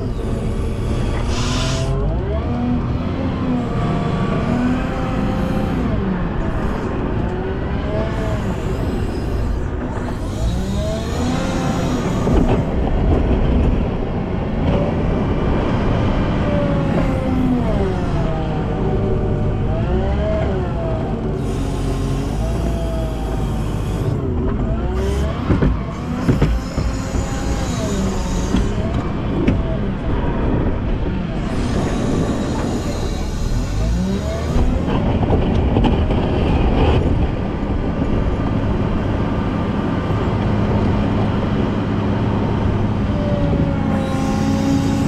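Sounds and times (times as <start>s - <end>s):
diesel engine revving: 0.0s - 45.0s.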